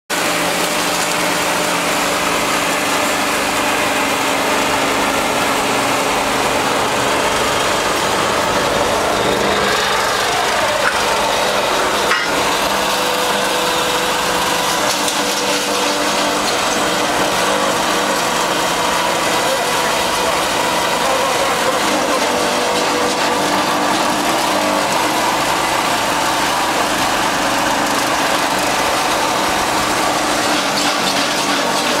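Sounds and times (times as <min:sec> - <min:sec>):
hammer mill grinding: 0:00.1 - 0:32.0.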